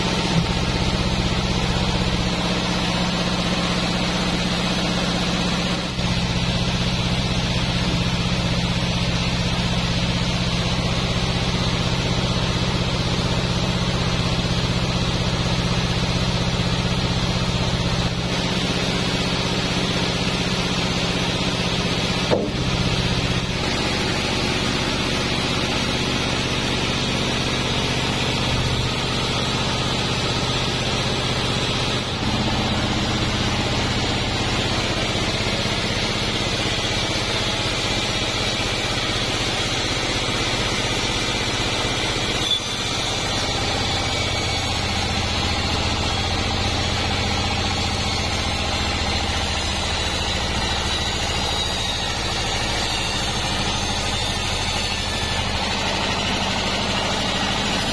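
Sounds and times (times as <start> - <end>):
band saw cutting logs: 0.0 - 57.9.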